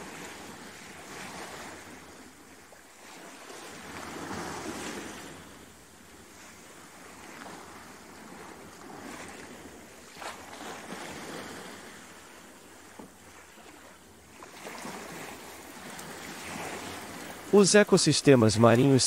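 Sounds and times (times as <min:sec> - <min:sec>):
rushing water: 0:00.0 - 0:05.5, 0:06.7 - 0:19.0.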